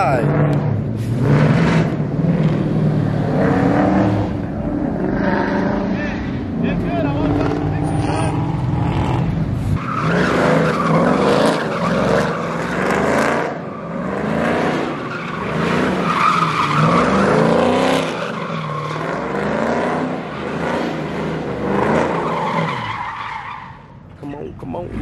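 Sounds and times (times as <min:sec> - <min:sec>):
truck engine revving hard: 0:00.0 - 0:23.8.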